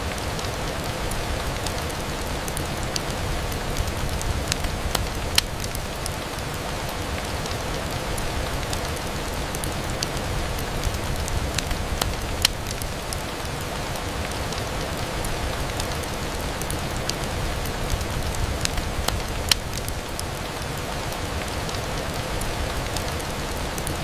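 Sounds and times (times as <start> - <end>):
rain on a window: 0.0 - 24.0
sharp raindrop ticks: 0.0 - 24.0.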